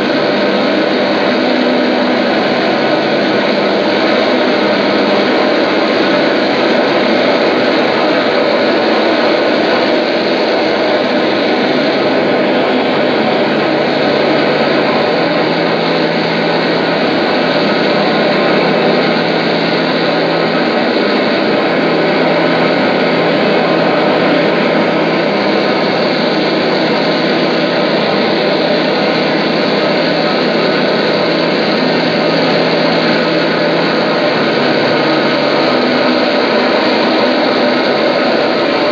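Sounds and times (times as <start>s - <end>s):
loud dense droning noise: 0.0s - 38.9s.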